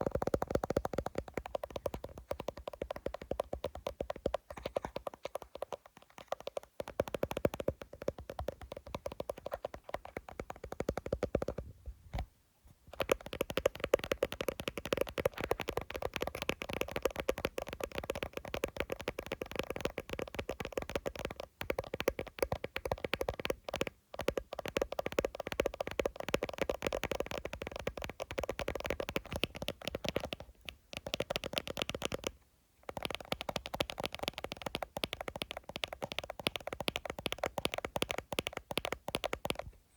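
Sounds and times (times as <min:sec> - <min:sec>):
fingernails tapping on phone: 0:00.0 - 0:11.6, 0:12.9 - 0:32.3, 0:32.9 - 0:39.7.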